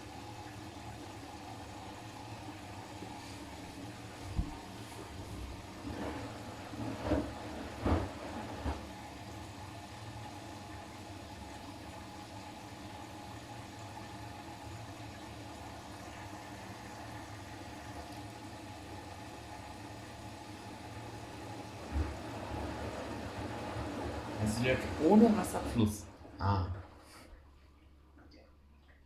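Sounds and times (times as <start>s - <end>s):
water flowing in hiss: 0.0s - 27.4s
laundry tumbling in washing machine: 0.0s - 28.2s
washing machine hum: 0.0s - 29.0s.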